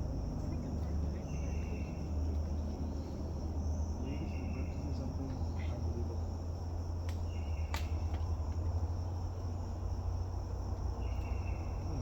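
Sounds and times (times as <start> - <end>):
insects chirping: 0.0 - 12.0
low steady rumble: 0.0 - 12.0.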